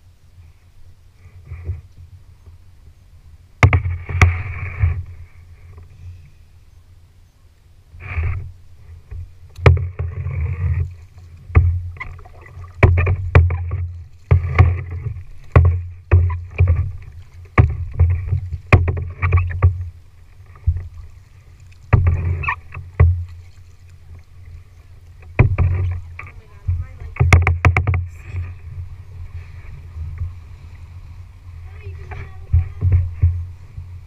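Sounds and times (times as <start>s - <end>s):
kayak paddle splashing: 0.4s - 6.7s, 7.9s - 34.0s.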